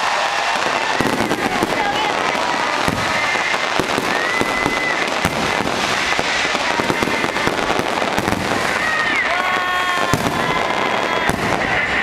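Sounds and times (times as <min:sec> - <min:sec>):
fireworks bangs and crackles: 0:00.0 - 0:12.0
high firework whistle: 0:00.0 - 0:12.0.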